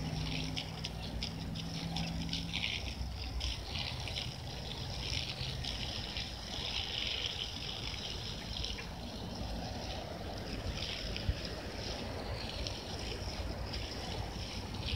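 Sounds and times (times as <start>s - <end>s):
hose water spraying on grass: 0.0s - 14.9s.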